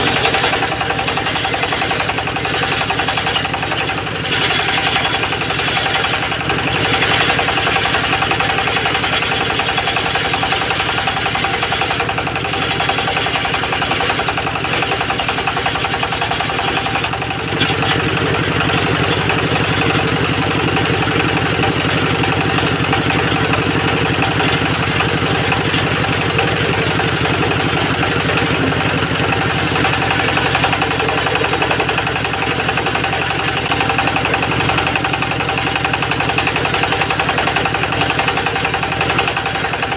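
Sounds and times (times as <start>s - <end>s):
sawmill blade sawing wood: 0.0s - 39.9s.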